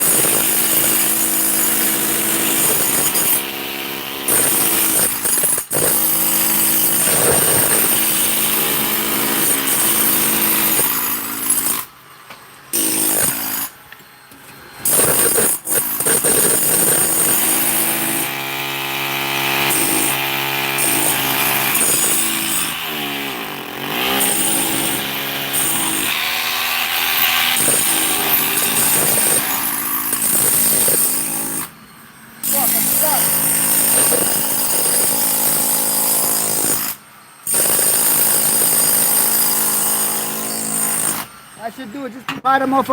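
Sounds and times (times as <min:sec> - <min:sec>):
handheld power tool running: 0:00.0 - 0:11.9, 0:12.8 - 0:13.7, 0:14.8 - 0:31.7, 0:32.4 - 0:41.4.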